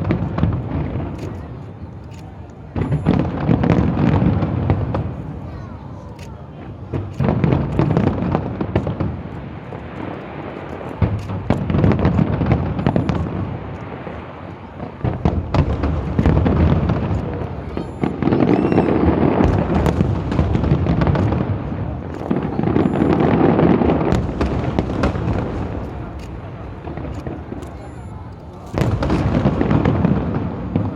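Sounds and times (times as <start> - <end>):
fireworks booming and crackling: 0.0 - 30.9.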